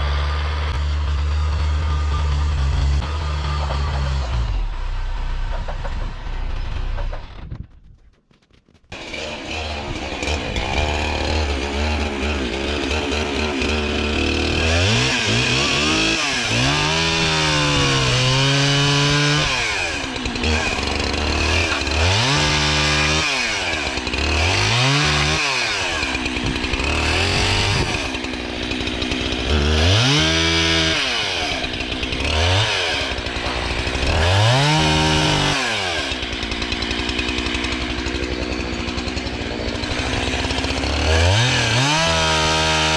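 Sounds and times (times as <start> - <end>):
chainsaw cutting logs: 0.0 - 42.9.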